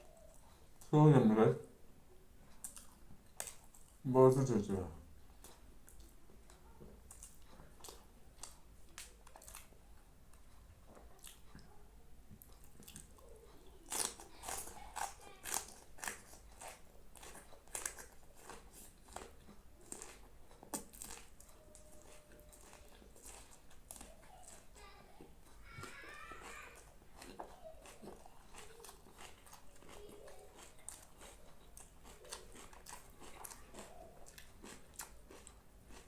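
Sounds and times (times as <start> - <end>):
person chewing crunchy food: 2.5 - 4.0, 5.4 - 10.5, 12.4 - 24.8, 25.5 - 36.0.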